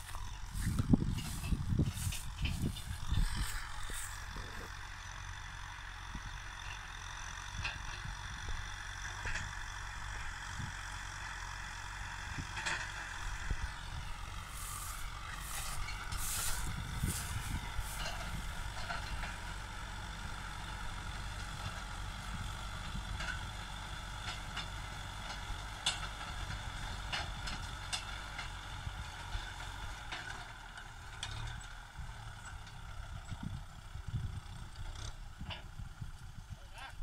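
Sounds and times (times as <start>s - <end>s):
tractor engine rumbling: 0.0s - 37.0s.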